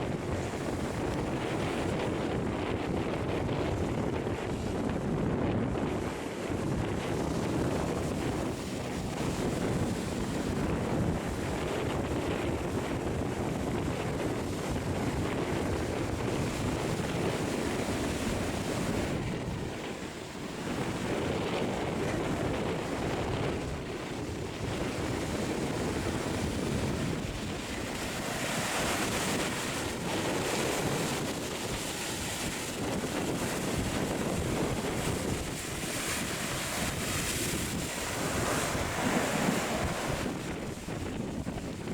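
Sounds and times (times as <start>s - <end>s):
waves breaking: 0.0s - 4.6s, 6.0s - 41.9s
wind buffeting microphone: 0.0s - 41.9s.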